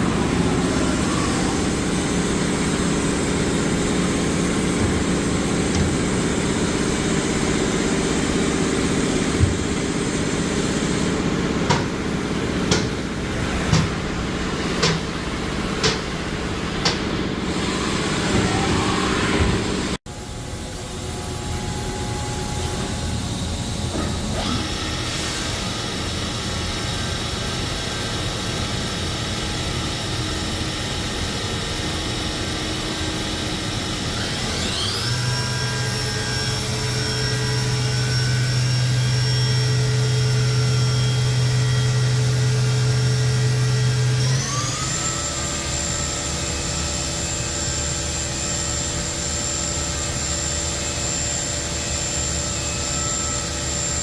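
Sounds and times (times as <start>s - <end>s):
machining center high whine: 0.0s - 54.0s.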